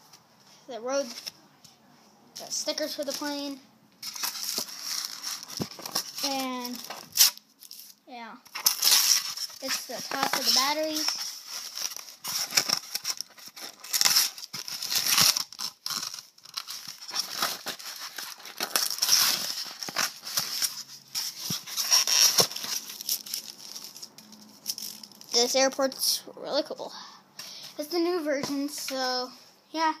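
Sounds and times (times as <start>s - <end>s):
rustling and crinkling: 0.0s - 1.8s, 2.4s - 26.1s, 27.7s - 29.4s.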